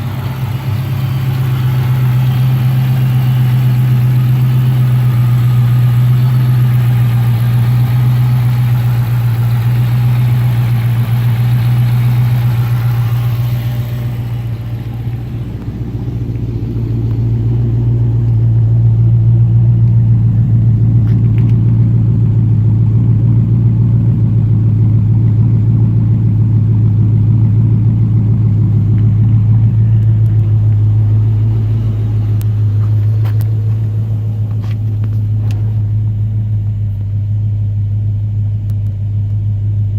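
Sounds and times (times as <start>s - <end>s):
car engine idling with misfire: 0.0s - 39.9s.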